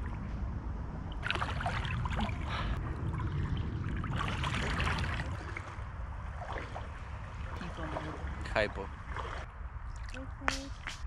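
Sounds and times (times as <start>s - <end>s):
low rumble: 0.0s - 11.0s
river water splashing: 1.2s - 10.2s.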